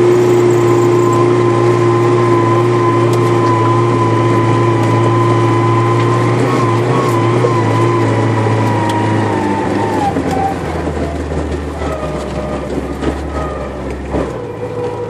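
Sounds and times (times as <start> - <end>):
off-road vehicle engine: 0.0 - 15.0.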